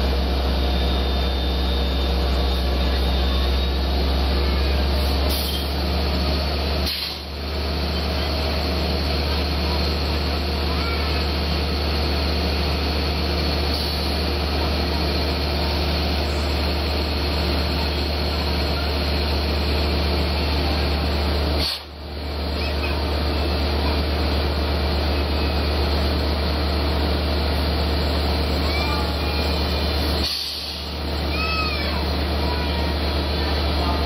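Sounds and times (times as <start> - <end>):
locomotive engine idling: 0.0 - 34.0.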